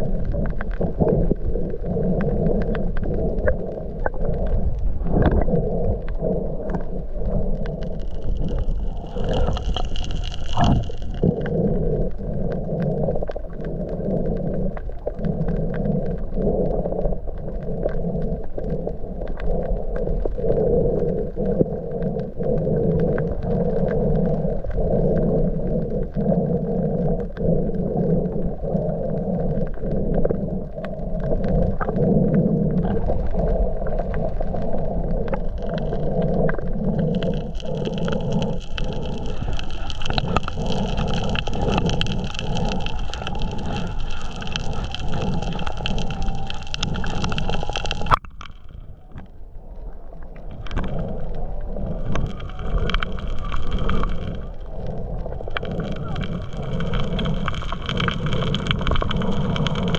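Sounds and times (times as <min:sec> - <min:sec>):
muffled low rumble: 0:00.0 - 0:59.9.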